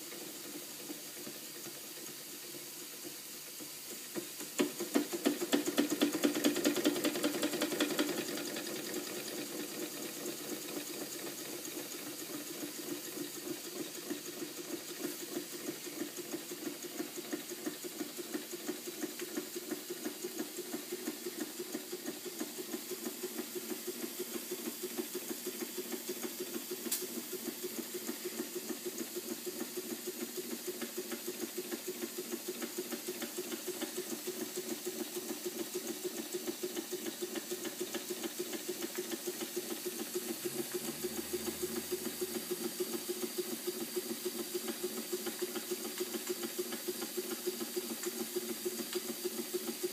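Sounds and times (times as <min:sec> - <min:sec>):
steam hissing: 0:00.0 - 0:49.9
toy steam engine chuffing: 0:00.0 - 0:49.9.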